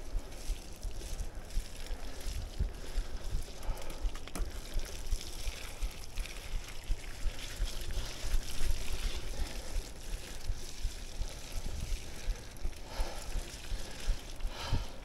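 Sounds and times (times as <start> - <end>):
bike tyres hissing on dirt: 0.0 - 15.0.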